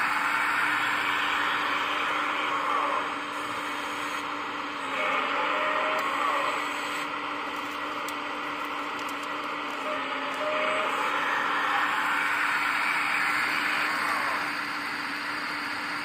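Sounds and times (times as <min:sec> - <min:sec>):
hydraulic pump whining and hissing: 0:00.0 - 0:07.4, 0:09.6 - 0:16.0.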